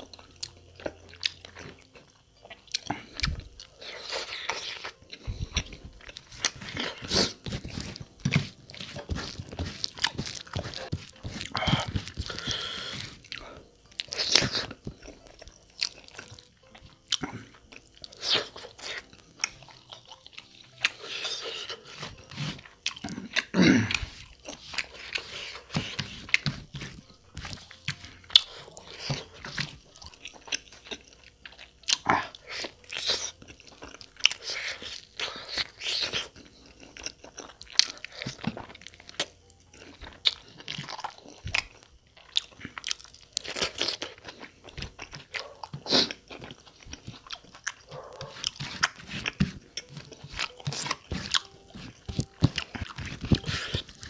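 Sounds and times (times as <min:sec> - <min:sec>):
wet chewing and lip-smacking: 0:00.0 - 0:54.0
fingers squelching rice and gravy: 0:05.6 - 0:54.0.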